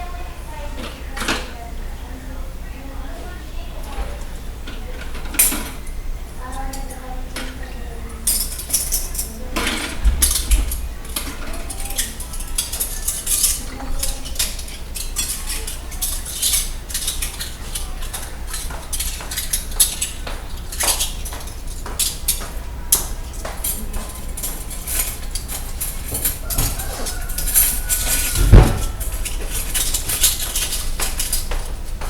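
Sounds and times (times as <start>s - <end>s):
dishes and cutlery clinking: 3.9s - 32.0s.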